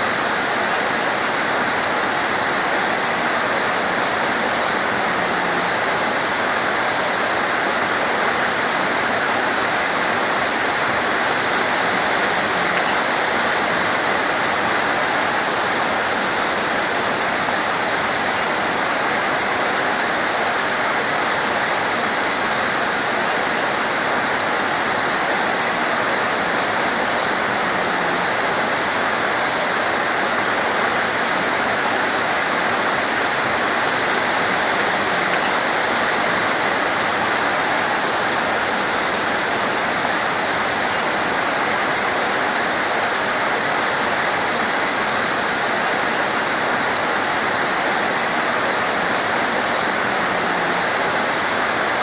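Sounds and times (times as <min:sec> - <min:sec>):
torrential rain: 0:00.0 - 0:52.0.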